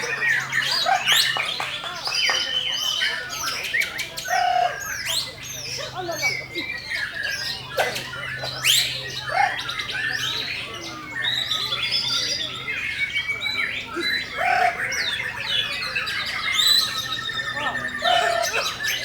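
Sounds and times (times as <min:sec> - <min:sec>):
birds singing: 0:00.0 - 0:19.0.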